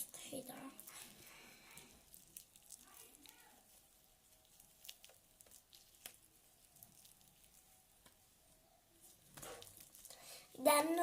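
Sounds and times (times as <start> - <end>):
soft rustle: 0.0 - 10.3.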